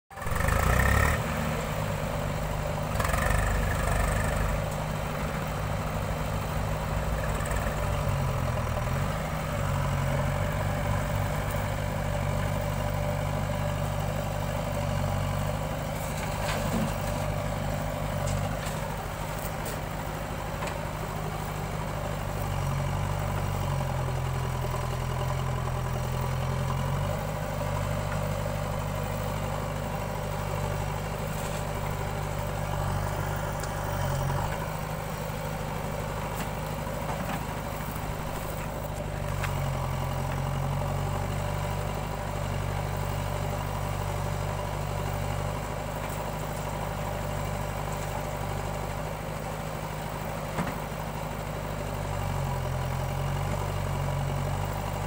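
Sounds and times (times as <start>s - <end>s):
diesel engines running: 0.1s - 55.0s.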